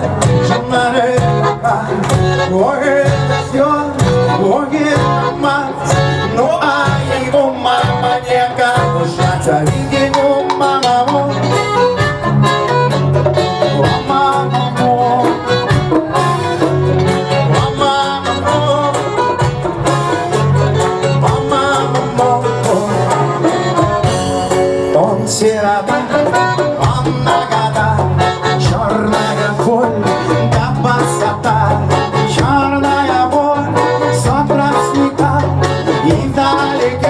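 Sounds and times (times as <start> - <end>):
band playing music: 0.0 - 37.0.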